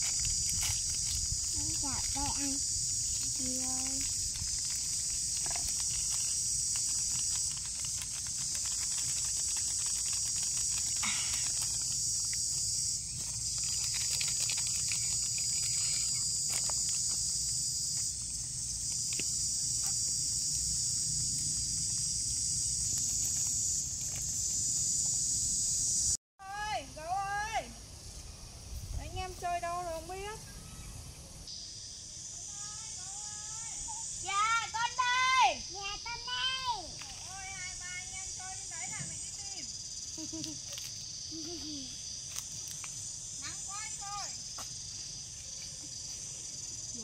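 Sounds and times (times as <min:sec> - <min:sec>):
insect chorus buzzing: 0:00.0 - 0:47.0.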